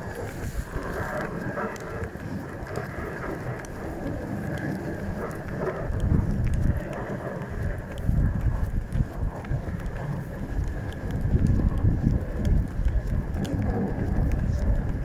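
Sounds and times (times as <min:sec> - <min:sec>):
hooves crunching in snow: 0:00.0 - 0:15.0.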